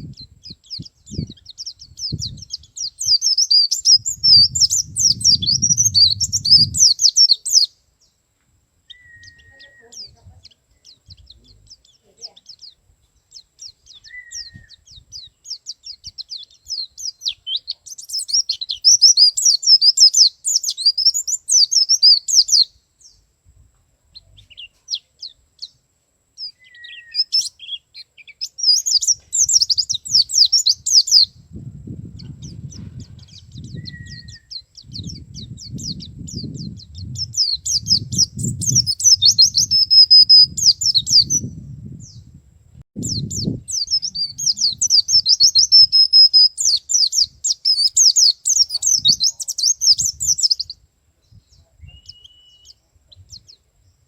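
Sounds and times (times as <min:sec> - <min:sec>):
bird twittering: 0:00.0 - 0:07.8, 0:08.9 - 0:23.2, 0:26.4 - 0:31.4, 0:32.2 - 0:41.5, 0:43.0 - 0:50.8, 0:51.8 - 0:53.6.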